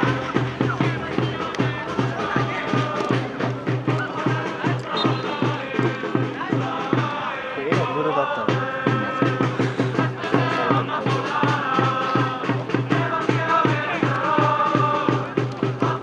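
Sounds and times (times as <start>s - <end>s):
bass drum beat: 0.0s - 16.0s
supporters chanting in unison: 0.0s - 16.0s.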